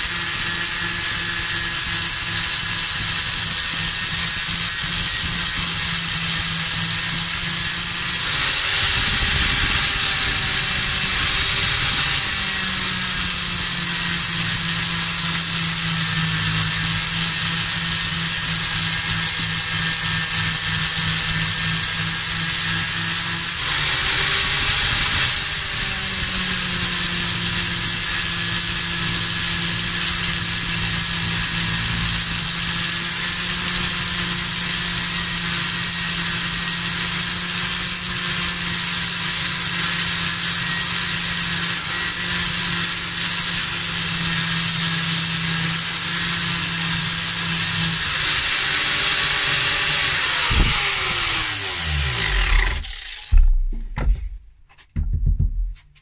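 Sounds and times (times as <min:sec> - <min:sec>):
angle grinder grinding steel: 0:00.0 - 0:53.8.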